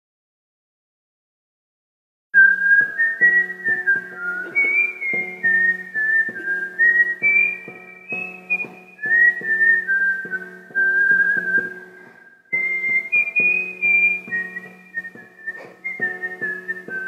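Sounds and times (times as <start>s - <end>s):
backing track with plucked strings: 2.4s - 17.0s
whistled melody: 2.4s - 17.0s.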